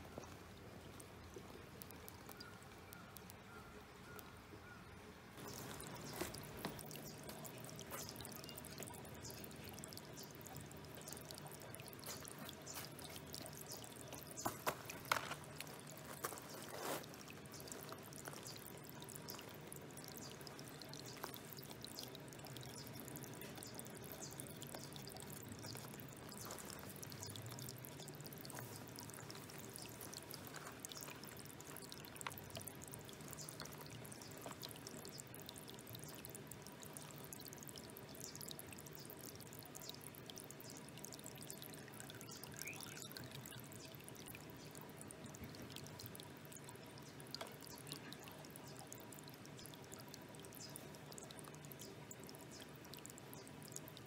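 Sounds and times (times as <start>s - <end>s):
water trickling into bowl: 0.0s - 54.0s.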